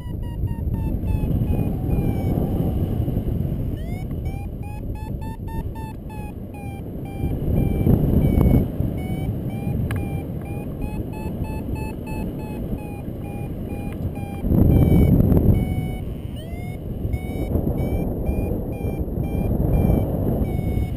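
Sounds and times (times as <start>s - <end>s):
variometer beeping: 0.0s - 20.9s
wind rushing over microphone: 0.0s - 20.9s.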